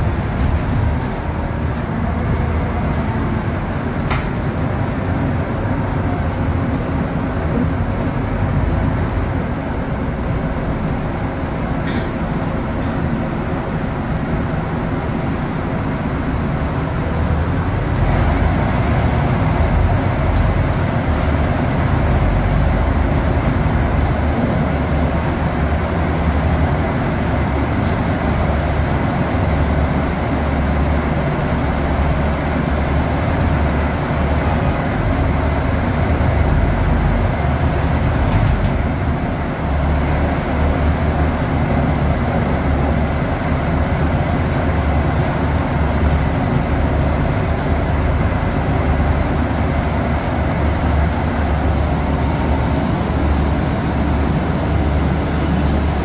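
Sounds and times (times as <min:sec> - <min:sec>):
bus diesel engine drone: 0:00.0 - 0:56.0
road and body noise: 0:00.0 - 0:56.0.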